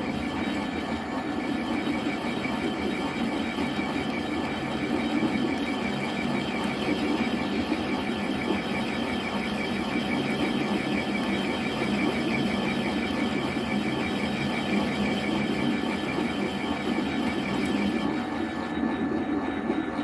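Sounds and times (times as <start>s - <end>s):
machine running with fast pulsing: 0.0s - 20.0s.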